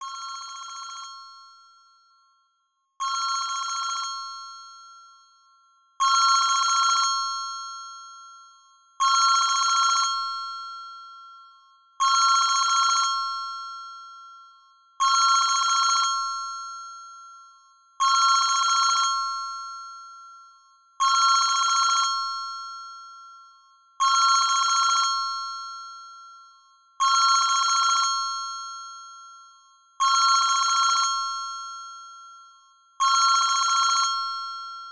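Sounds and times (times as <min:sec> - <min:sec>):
bell-like phone ringtone: 0:00.0 - 0:34.9.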